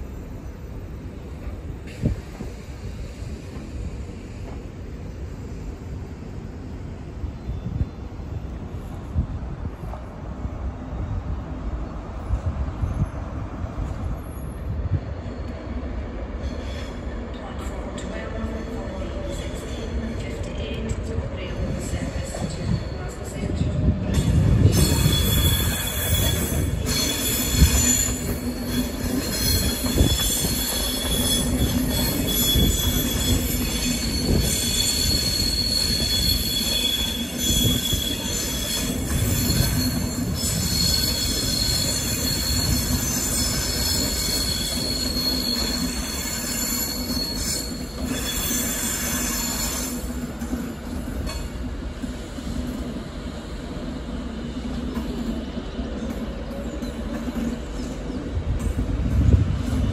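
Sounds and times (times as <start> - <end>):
train wheels squealing on rails: 0.0 - 10.2, 11.0 - 59.9
train low rumble: 0.0 - 59.9.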